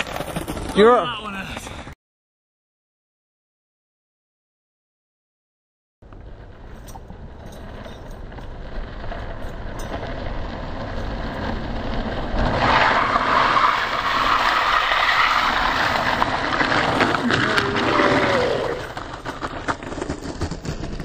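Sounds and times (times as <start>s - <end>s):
longboard wheels rolling on asphalt: 0.0s - 1.9s, 6.0s - 21.0s
rough scraping slide on pavement: 0.0s - 2.0s, 6.1s - 21.0s.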